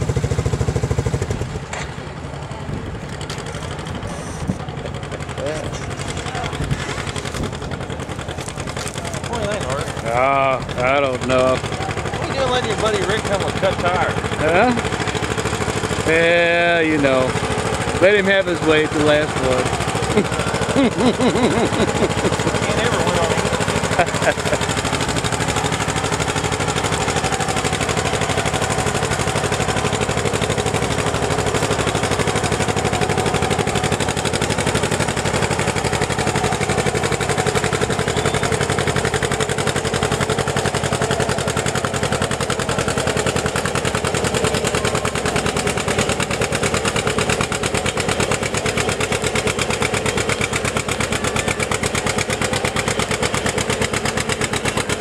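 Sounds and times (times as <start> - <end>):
tractor engine working under load: 0.0 - 55.0.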